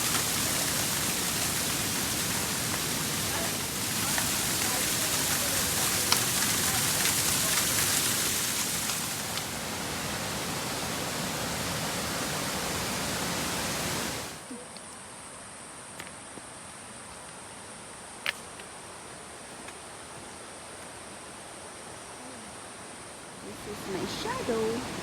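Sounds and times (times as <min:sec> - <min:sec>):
running water rushing: 0:00.0 - 0:14.5, 0:18.8 - 0:25.0.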